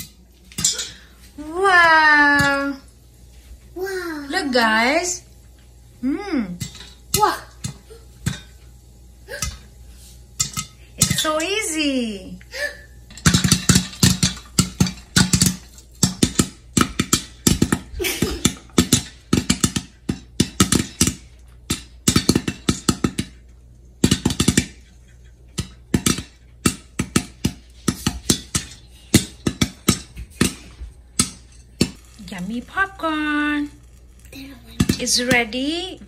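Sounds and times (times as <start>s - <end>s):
popcorn popping in a pan: 0.0s - 36.0s.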